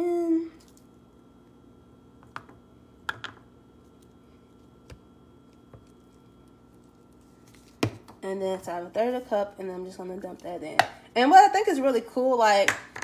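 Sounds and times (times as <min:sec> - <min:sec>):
low steady room hum: 0:00.0 - 0:13.0.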